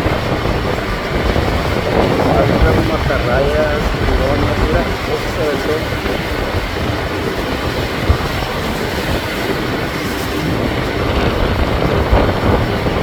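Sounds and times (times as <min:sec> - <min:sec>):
rough sea water: 0:00.0 - 0:13.0
wind rumbling: 0:00.0 - 0:13.0.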